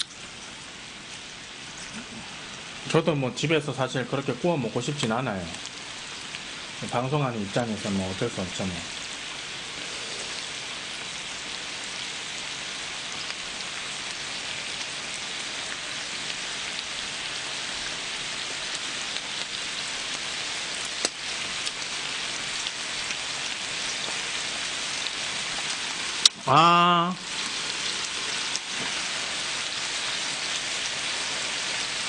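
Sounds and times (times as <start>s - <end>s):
meat sizzling on a griddle: 0.0s - 32.0s.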